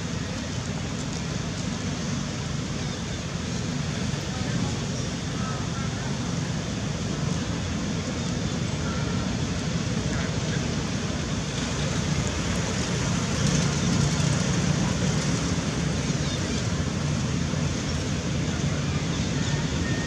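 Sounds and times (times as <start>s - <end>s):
outdoor background rumble: 0.0s - 20.0s.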